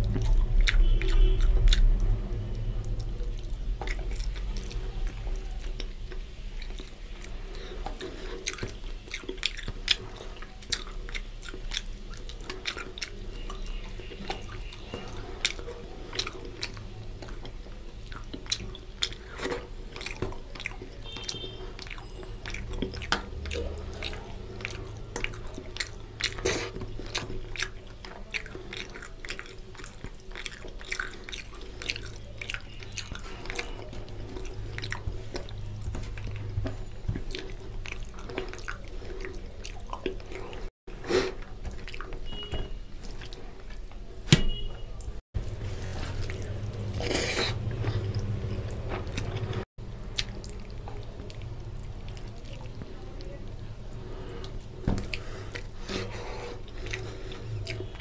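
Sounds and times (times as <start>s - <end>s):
person chewing and lip-smacking: 0.0s - 45.2s, 46.0s - 58.0s.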